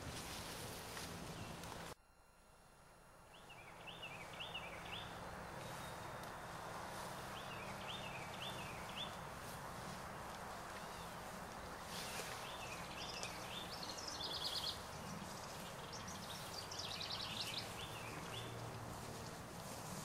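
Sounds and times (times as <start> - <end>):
people walking through tall grass: 0.0 - 2.0, 3.3 - 20.0
songbird singing: 1.1 - 2.0, 3.1 - 20.0.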